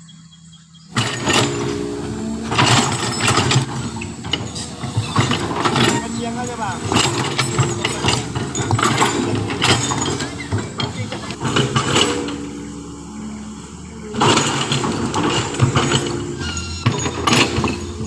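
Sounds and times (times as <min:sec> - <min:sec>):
mechanical clanks and rattles: 0:00.9 - 0:18.0
vehicle engine running: 0:00.9 - 0:18.0.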